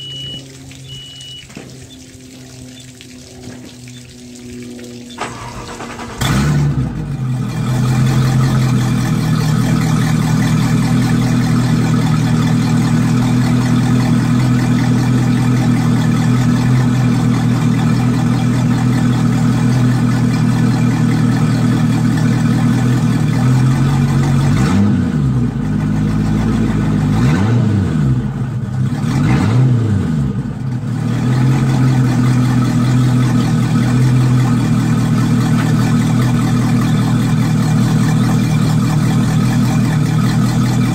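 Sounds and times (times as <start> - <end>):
boat engine idling and revving: 0.0 - 40.9.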